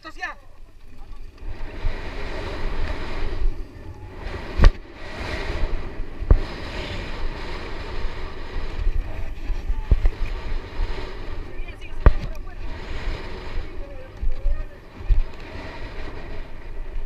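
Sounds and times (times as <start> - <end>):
wind buffeting microphone: 0.7 - 17.0
bike rumbling over dirt: 0.8 - 17.0.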